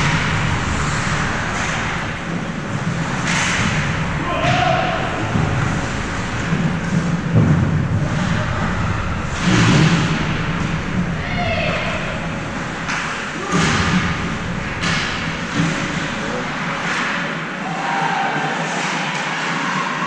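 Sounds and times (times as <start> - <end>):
sharp knocks: 0.0 - 17.2
voices calling in arena: 0.0 - 20.0.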